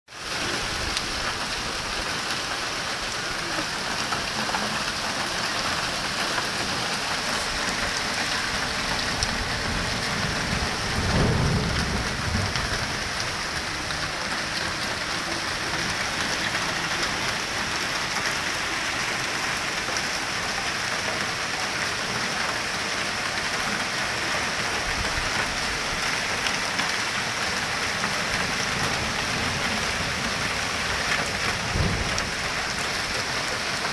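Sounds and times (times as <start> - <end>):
hail and heavy rain: 0.1 - 33.9.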